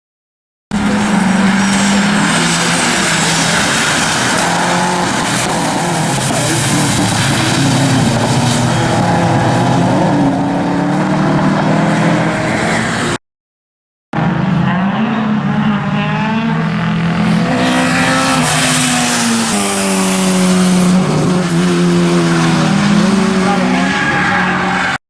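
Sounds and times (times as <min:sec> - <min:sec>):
rally car engines accelerating: 0:00.7 - 0:13.2, 0:14.2 - 0:25.0.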